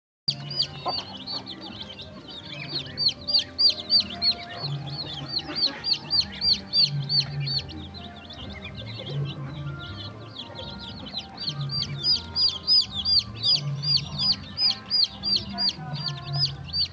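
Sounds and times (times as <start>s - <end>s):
chicks peeping: 0.3s - 16.9s.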